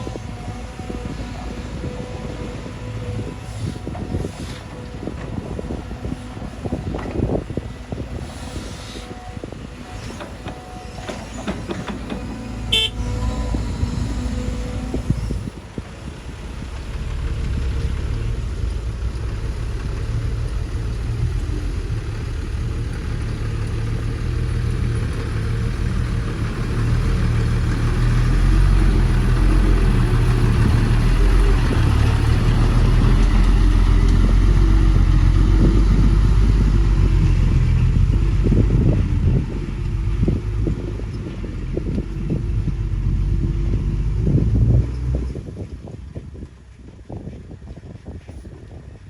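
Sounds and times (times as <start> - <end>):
heavy diesel engine under load: 0.0 - 49.0.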